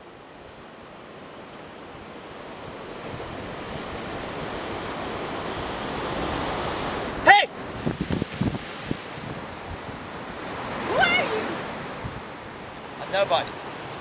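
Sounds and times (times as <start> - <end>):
ocean surf rushing: 0.0 - 14.0
wind: 0.0 - 14.0.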